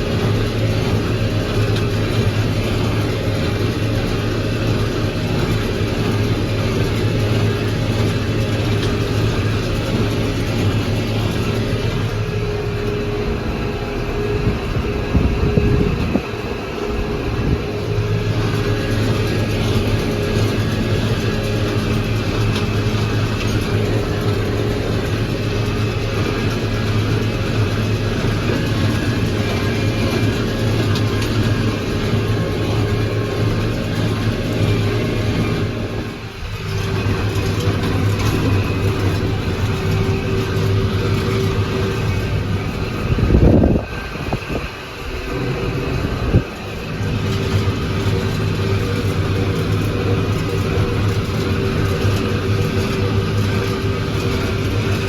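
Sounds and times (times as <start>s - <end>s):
steady whine: 0.0s - 55.0s
tractor engine running: 0.0s - 55.0s.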